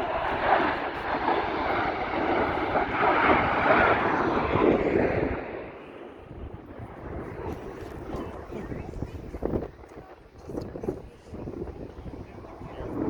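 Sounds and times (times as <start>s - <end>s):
airplane flying past: 0.0s - 10.2s, 12.0s - 13.0s.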